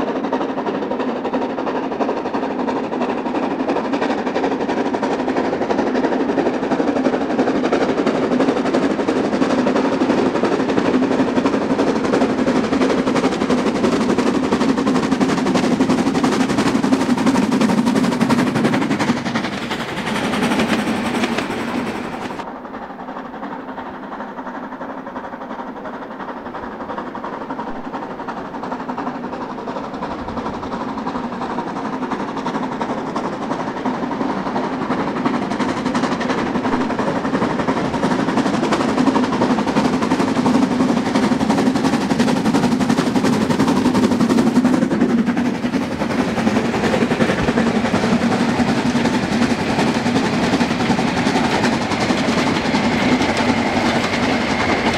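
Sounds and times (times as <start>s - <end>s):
steam locomotive exhaust beats: 0.0s - 54.9s.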